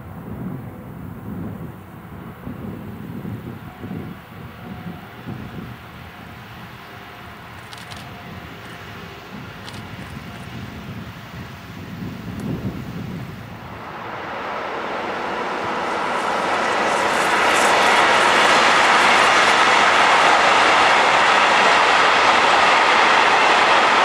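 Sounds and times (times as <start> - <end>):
freight train wheel and rail noise: 0.0 - 24.0.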